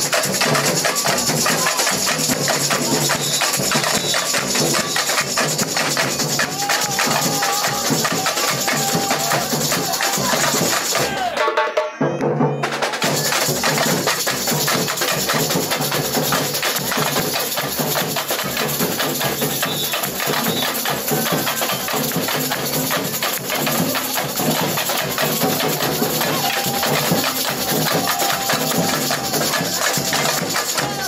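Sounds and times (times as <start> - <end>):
samba drumming: 0.0 - 31.0.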